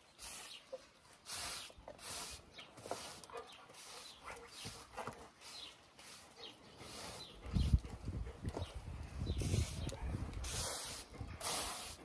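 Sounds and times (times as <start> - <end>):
push broom sweeping concrete: 0.0 - 7.3, 9.4 - 12.0.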